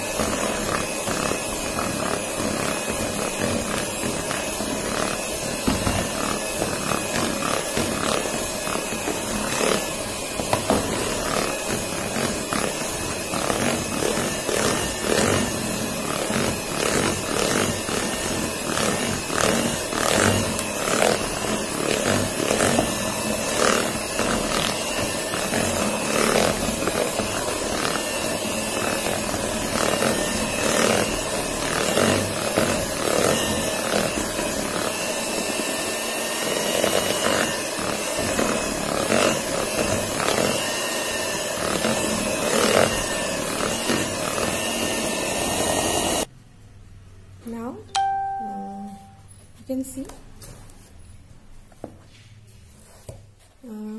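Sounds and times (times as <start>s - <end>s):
electric hand mixer running: 0.0s - 46.3s.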